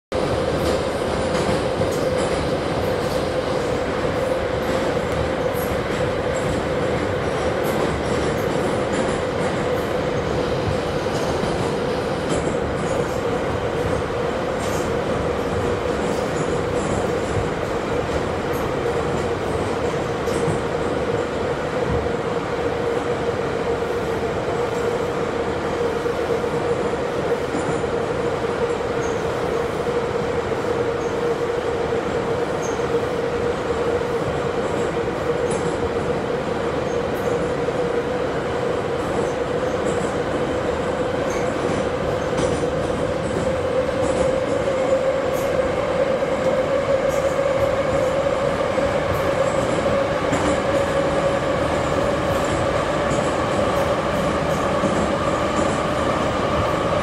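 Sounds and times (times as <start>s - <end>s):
train wheels rumbling: 0.1s - 57.0s.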